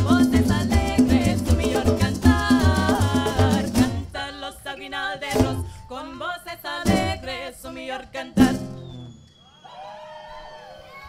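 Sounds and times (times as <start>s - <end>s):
group singing in harmony: 0.0s - 8.9s.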